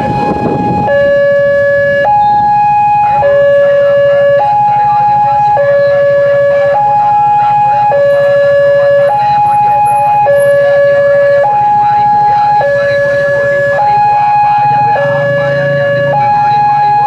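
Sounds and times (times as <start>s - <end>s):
two-tone crossing siren: 0.0s - 17.0s.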